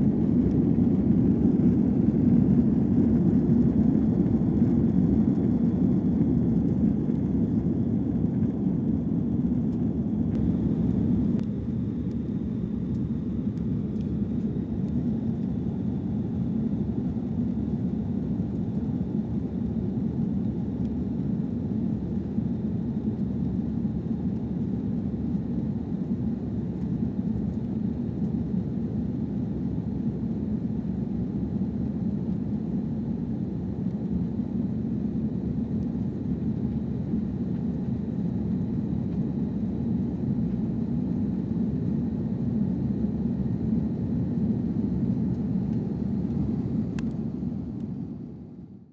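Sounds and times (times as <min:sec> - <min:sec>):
aircraft cabin engine rumble: 0:00.0 - 0:48.9.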